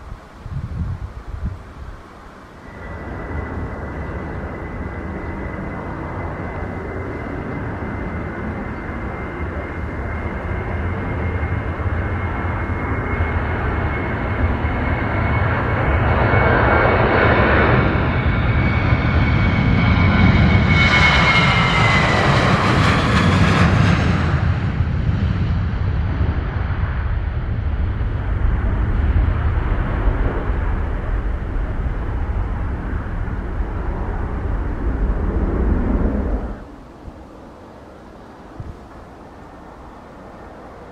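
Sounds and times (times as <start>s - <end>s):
jet engines taking off: 0.0s - 40.9s.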